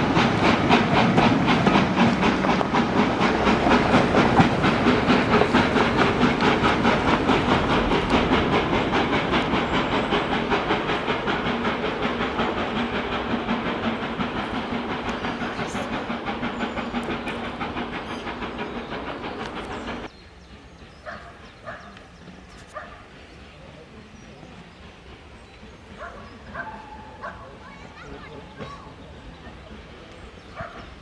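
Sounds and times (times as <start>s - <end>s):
steam locomotive exhaust beats: 0.0s - 31.0s.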